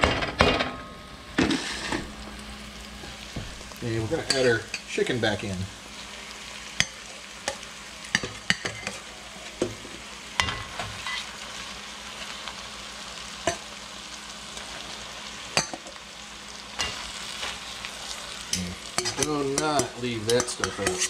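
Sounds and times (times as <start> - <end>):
chicken sizzling in pot: 1.0 - 21.0.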